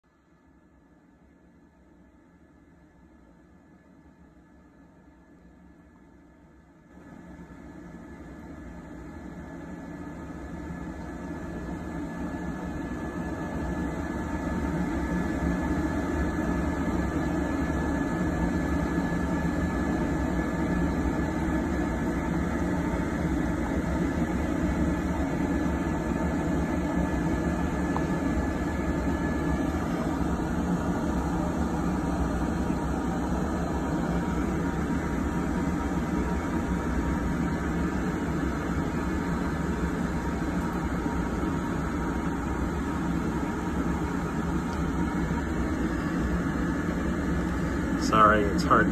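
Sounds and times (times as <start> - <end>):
low machine hum and rush: 0.1 - 48.9.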